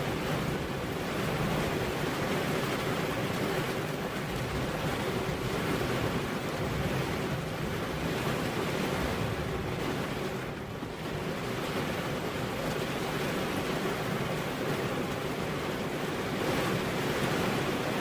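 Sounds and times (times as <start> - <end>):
dense rain hiss: 0.0 - 18.0.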